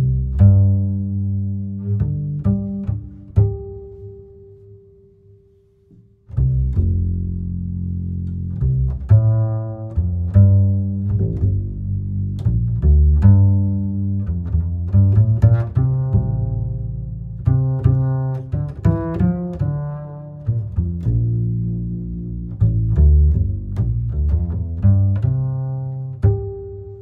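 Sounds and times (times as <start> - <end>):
low held bass notes: 0.0 - 27.0
plucked notes: 0.0 - 27.0.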